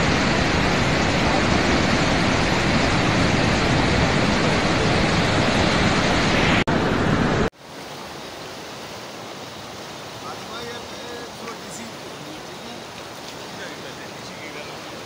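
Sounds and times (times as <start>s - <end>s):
flood water rushing: 0.0s - 15.0s.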